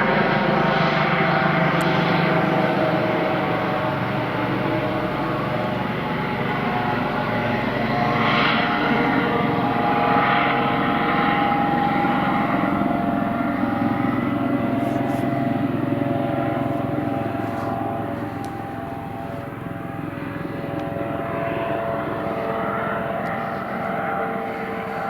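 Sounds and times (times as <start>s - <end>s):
helicopter engines and rotors: 0.0s - 25.0s
turbine whine: 0.0s - 25.0s.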